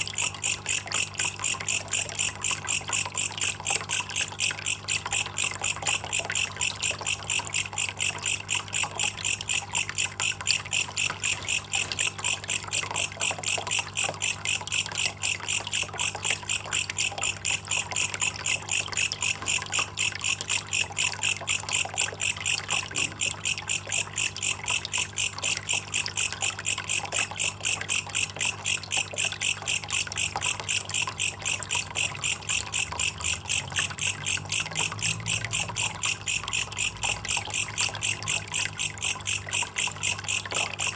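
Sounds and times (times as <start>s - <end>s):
water trickling: 0.0s - 40.9s
katydid chirping: 4.6s - 40.9s.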